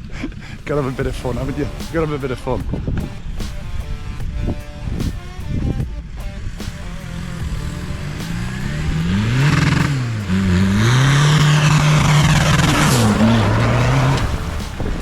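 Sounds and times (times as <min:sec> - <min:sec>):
off-road vehicle engine revving: 0:00.0 - 0:15.0
loud rushing noise: 0:00.6 - 0:15.0.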